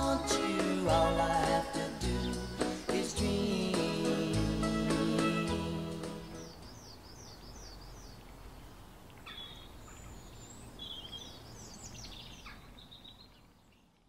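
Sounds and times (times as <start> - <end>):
small birds chirping: 0.0 - 5.3, 6.0 - 14.0
outdoor background noise: 0.0 - 14.0.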